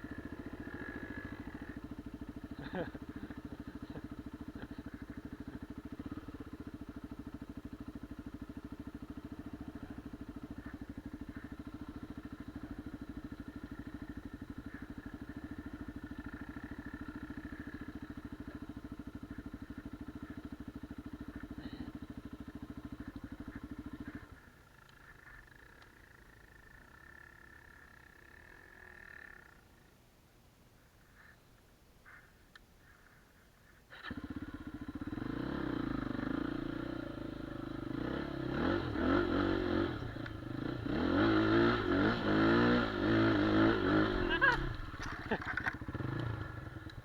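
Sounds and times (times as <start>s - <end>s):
motorcycle engine idling: 0.0s - 29.9s, 32.8s - 47.0s.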